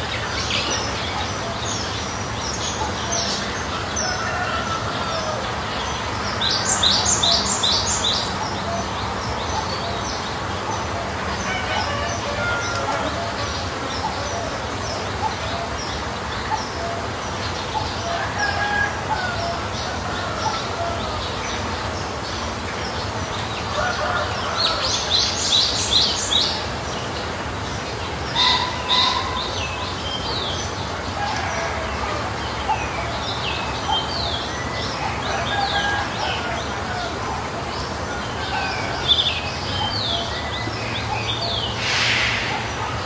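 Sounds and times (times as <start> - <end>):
birds chirping and calling: 0.0 - 43.0
low background noise: 0.0 - 43.0.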